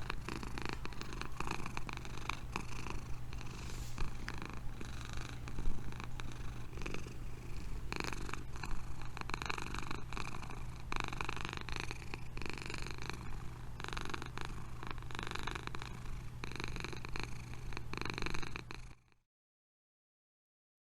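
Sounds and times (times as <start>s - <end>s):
cat purring: 0.0s - 19.1s.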